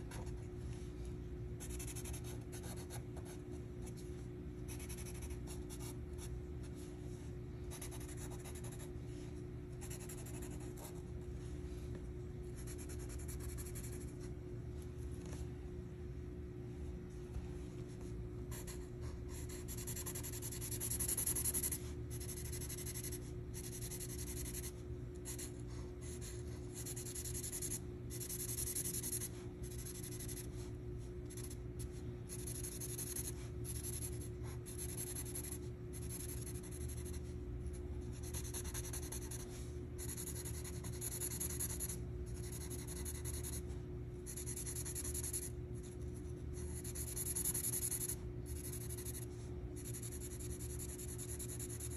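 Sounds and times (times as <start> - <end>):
marker scratching on paper: 1.6 - 4.0, 4.7 - 6.9, 7.7 - 9.0, 9.8 - 11.1, 12.6 - 14.3, 18.5 - 51.9.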